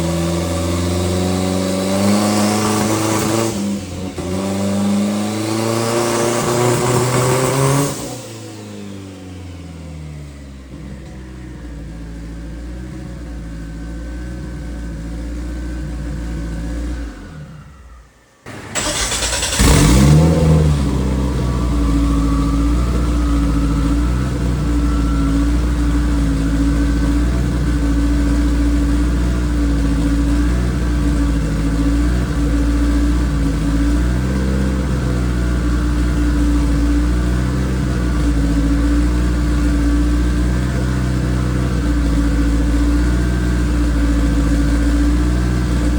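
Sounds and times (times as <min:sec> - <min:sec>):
race car engine: 0:00.0 - 0:45.9.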